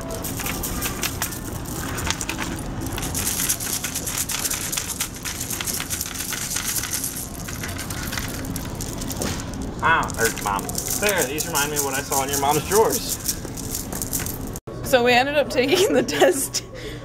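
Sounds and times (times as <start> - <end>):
bead packets crinkling: 0.0 - 14.6
beads clicking and rattling: 0.0 - 14.6.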